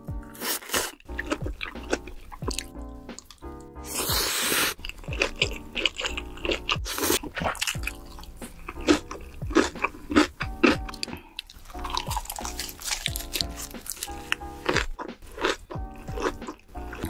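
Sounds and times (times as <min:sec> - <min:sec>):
light background music: 0:00.0 - 0:17.0
crunchy bites and chewing: 0:00.2 - 0:17.0
slurping noodles: 0:00.3 - 0:02.6, 0:03.2 - 0:10.4, 0:11.0 - 0:16.2.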